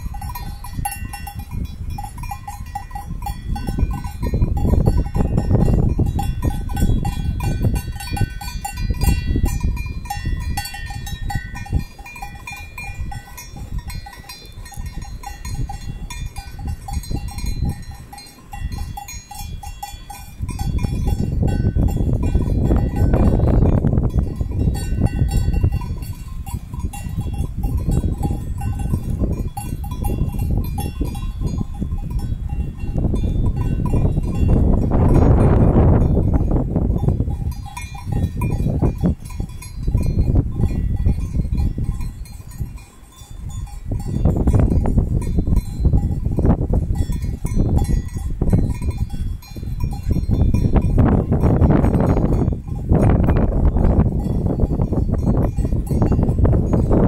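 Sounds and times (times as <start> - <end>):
sheep bells jingling: 0.0 - 57.0.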